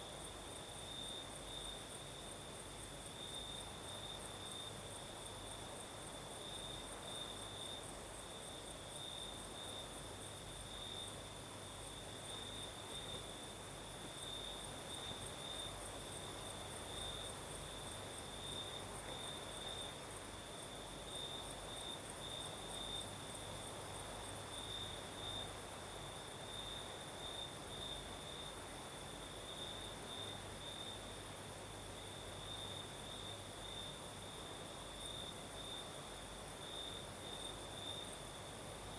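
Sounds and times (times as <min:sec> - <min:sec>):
crickets chorus: 0:00.0 - 0:38.9.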